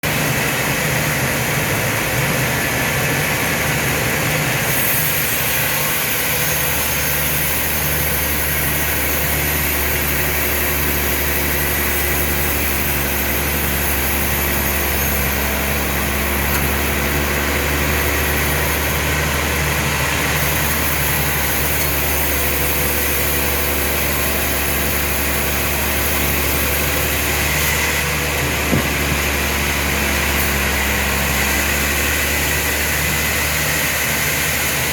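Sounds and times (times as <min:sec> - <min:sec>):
sawmill machinery humming: 0:00.0 - 0:34.9.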